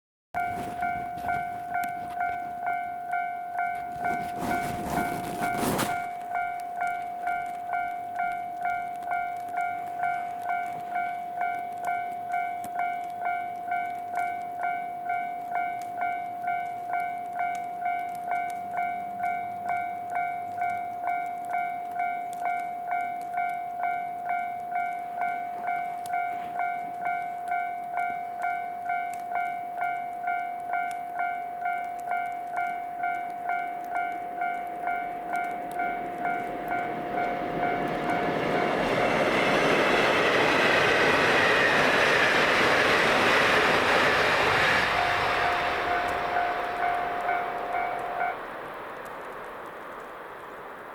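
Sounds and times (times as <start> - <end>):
level-crossing alarm bell ringing: 0.4 - 48.4
train passing with rail noise: 0.4 - 50.9.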